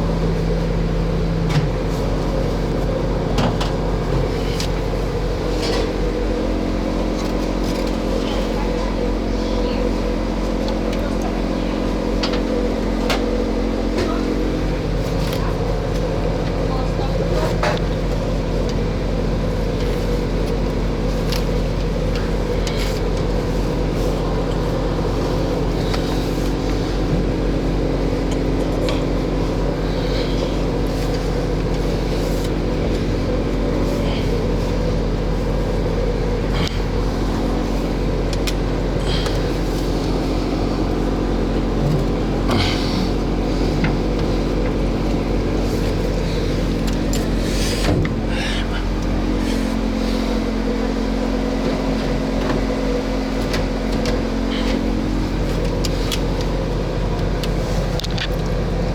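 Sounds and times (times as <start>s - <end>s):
motor-driven machine humming: 0.0s - 58.9s.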